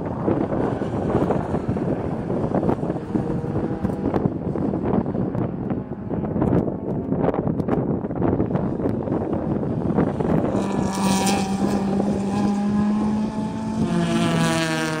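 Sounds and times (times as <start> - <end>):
racing car engines: 0.0 - 15.0
wind buffeting microphone: 0.0 - 15.0.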